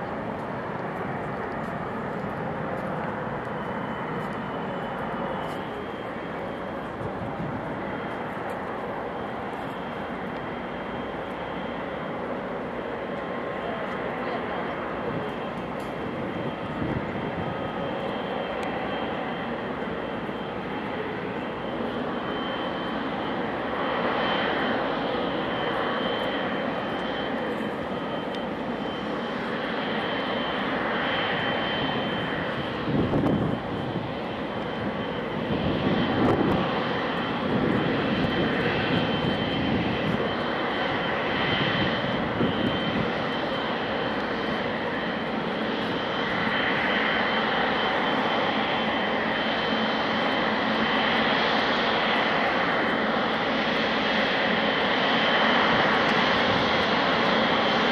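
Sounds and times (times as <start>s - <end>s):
jet engines rumbling with high whine: 0.0s - 57.9s.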